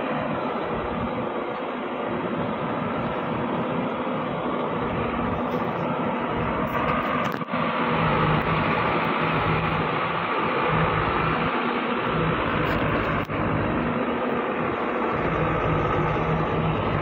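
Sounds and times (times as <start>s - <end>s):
diesel truck engine running hard: 0.0s - 17.0s.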